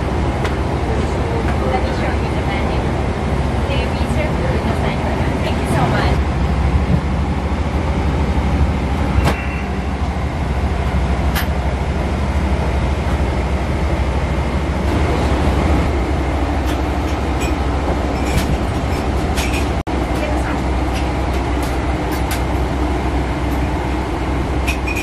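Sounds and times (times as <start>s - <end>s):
vehicle cabin rumble: 0.0s - 25.0s.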